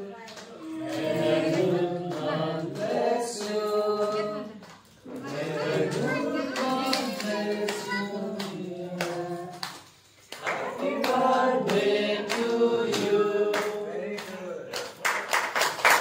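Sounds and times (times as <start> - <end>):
voices singing together: 0.0 - 14.6
hand-clapping: 0.3 - 5.4, 6.5 - 16.0.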